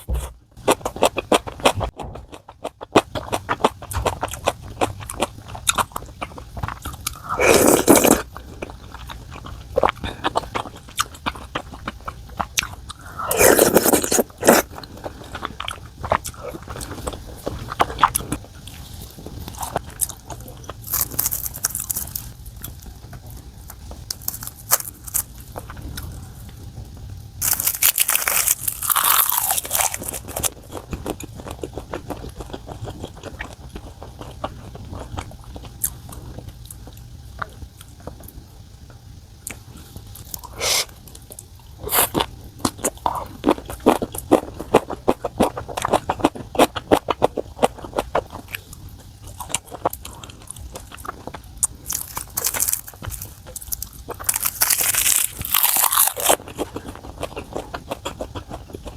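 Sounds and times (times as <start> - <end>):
person chewing and crunching food: 0.0 - 58.9.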